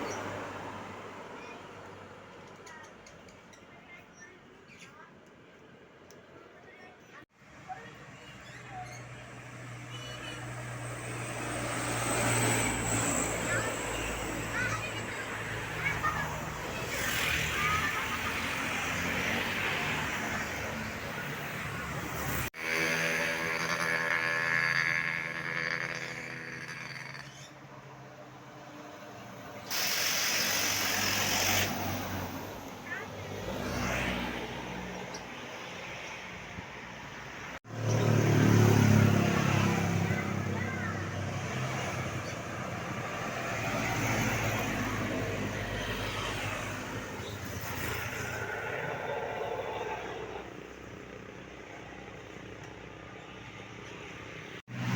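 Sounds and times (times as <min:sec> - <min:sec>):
buses on the road: 0:00.0 - 0:54.9
vehicle passing: 0:08.8 - 0:29.7, 0:31.3 - 0:54.9.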